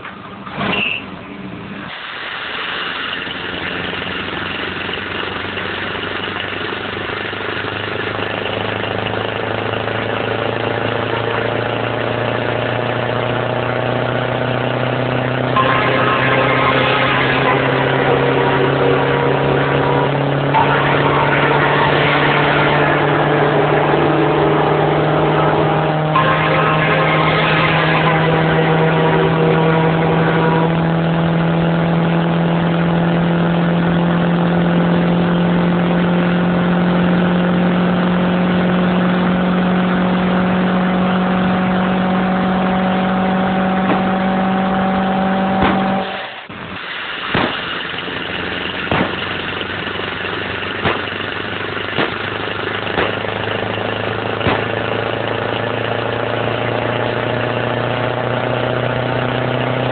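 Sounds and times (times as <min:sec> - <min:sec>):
lower steady engine note: 0:00.0 - 0:59.9
motorcycle engine high pitch: 0:03.1 - 0:46.7, 0:47.6 - 0:59.9.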